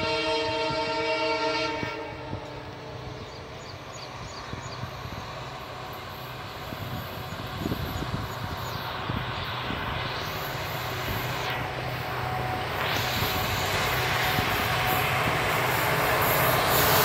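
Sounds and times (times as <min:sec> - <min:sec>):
diesel locomotive engine humming: 0:00.0 - 0:17.0
train rumble: 0:00.0 - 0:17.0.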